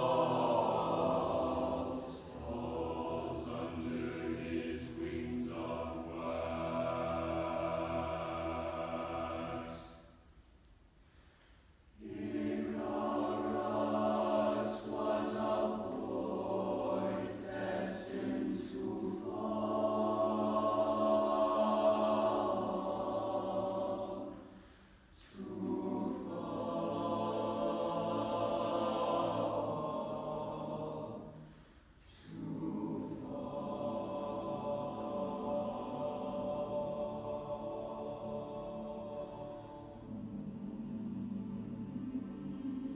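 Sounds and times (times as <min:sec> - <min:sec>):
children's choir singing: 0:00.0 - 0:10.2, 0:12.0 - 0:42.9.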